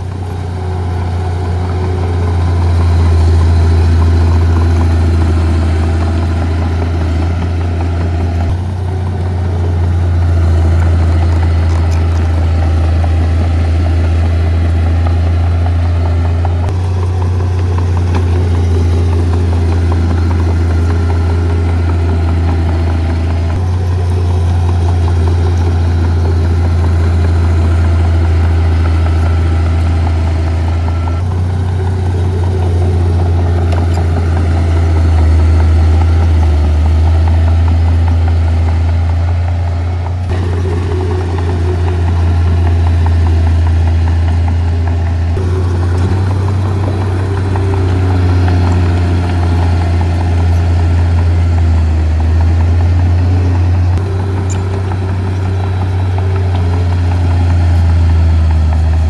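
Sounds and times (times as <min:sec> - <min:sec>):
heavy diesel engines droning: 0:00.0 - 0:59.0
machinery clatter: 0:00.0 - 0:59.0.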